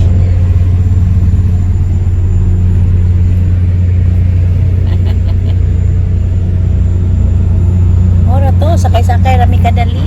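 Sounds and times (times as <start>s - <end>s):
loud low engine rumble: 0.0s - 10.0s.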